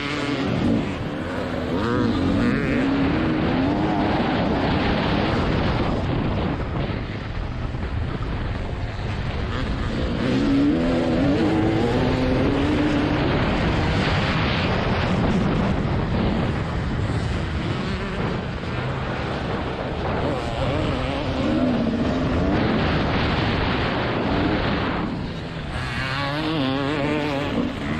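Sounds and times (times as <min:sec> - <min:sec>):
two-stroke engine revving: 0:00.0 - 0:06.9, 0:08.8 - 0:27.9
wind noise on microphone: 0:00.0 - 0:27.9.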